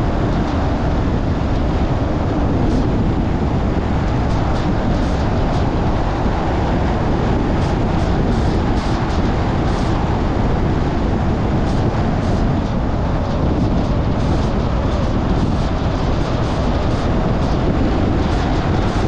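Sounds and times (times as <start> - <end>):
tyres rumbling on pavement: 0.0 - 19.0
wind noise of a moving car: 0.0 - 19.0.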